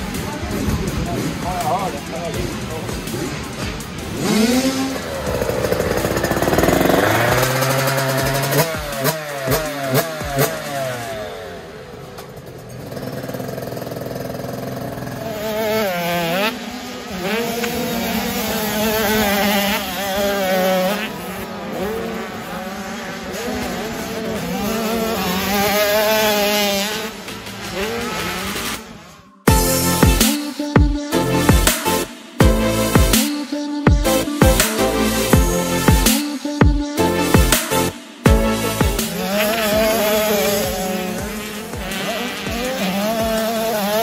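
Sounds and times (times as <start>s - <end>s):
motocross bike engines revving: 0.0s - 44.0s.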